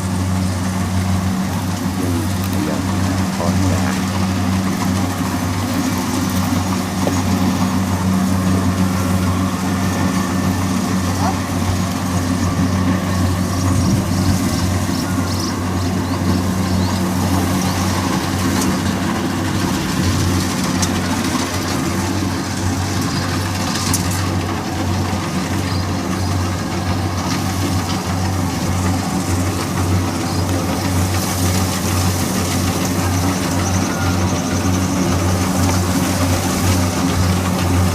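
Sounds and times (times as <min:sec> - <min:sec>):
diesel engine droning: 0:00.0 - 0:37.9.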